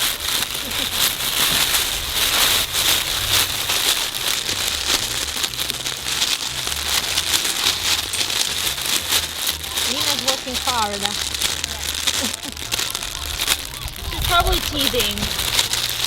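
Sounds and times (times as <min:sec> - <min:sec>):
puppies rustling and crinkling: 0:00.0 - 0:16.0.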